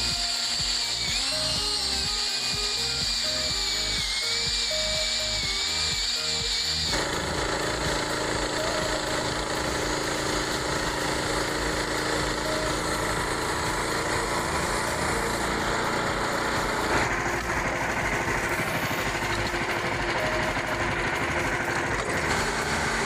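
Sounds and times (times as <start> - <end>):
small gasoline engine running: 0.0 - 23.0.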